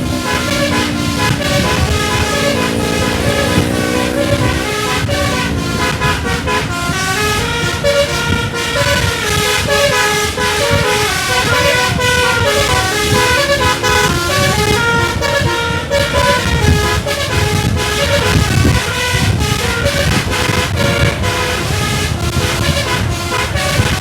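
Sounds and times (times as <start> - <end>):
multi-trumpet air horn tune: 0.0 - 24.0.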